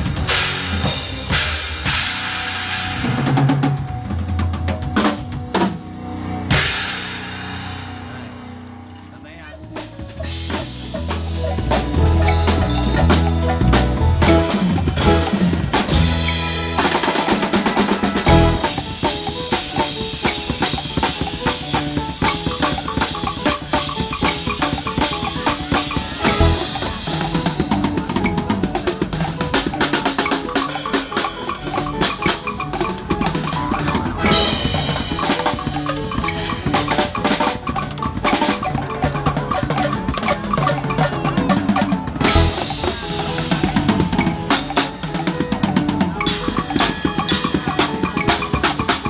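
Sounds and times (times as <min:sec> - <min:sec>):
acoustic drum kits playing: 0:00.0 - 0:49.0
backing track with bass: 0:00.0 - 0:49.0.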